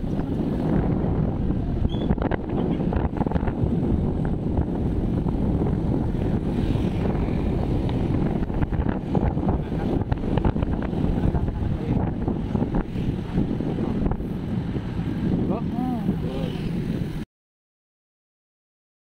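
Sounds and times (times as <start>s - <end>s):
wind buffeting microphone: 0.0s - 17.2s.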